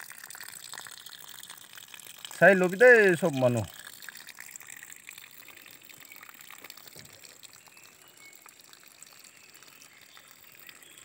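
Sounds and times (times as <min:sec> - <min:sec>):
faint water trickle: 0:00.0 - 0:11.0.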